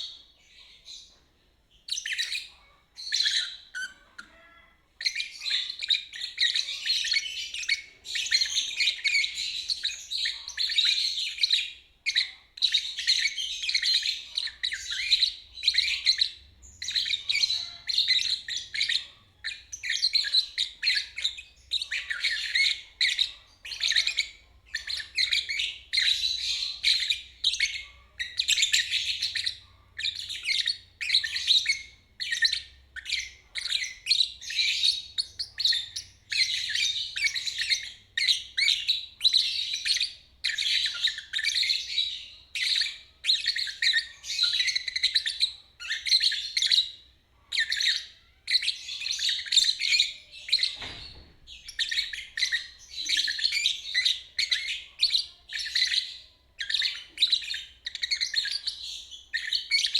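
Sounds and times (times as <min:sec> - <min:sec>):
lovebird chattering: 0:01.9 - 0:59.9.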